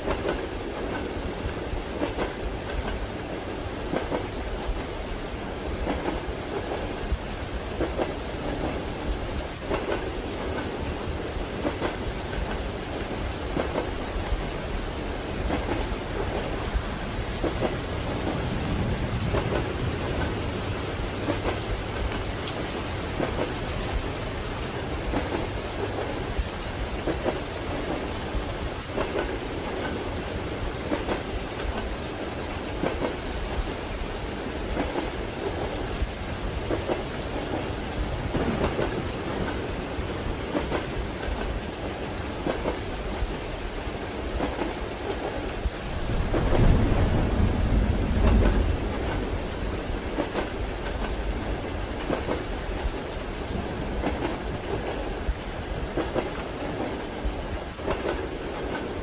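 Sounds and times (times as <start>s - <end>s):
low roll of thunder: 0.0s - 41.4s, 45.5s - 59.0s
steady rain: 0.0s - 59.0s.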